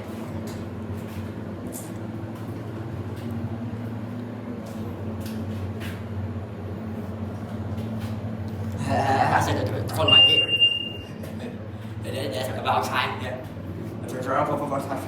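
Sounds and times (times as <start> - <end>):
elevator mechanical hum: 0.0 - 15.0.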